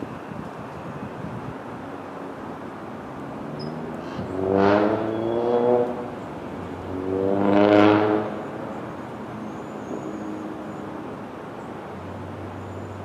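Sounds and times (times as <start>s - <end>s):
vehicles driving past: 0.0s - 13.0s.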